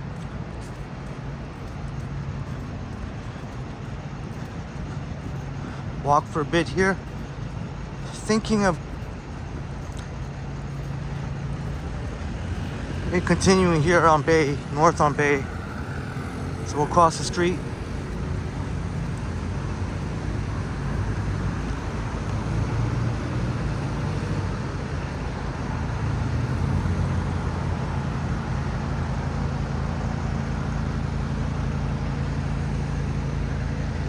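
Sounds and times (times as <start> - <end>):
road noise: 0.0 - 34.0
vehicle engines running: 0.0 - 34.0.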